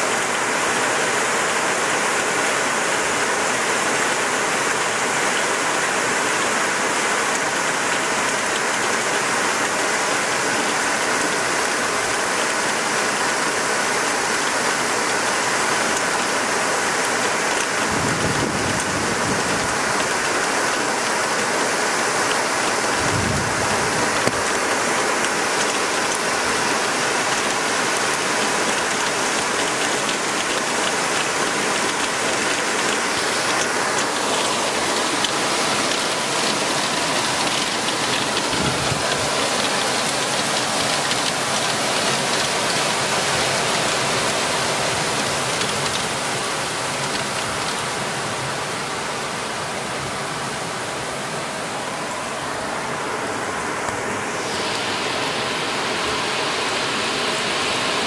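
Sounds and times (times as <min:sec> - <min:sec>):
torrential rain and hail: 0:00.0 - 0:58.0.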